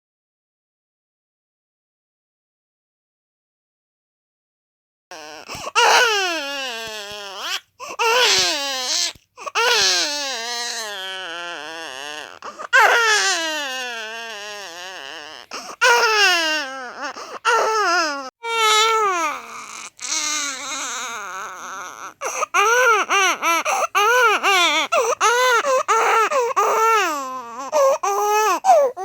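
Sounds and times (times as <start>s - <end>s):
newborn baby crying: 5.1s - 29.0s.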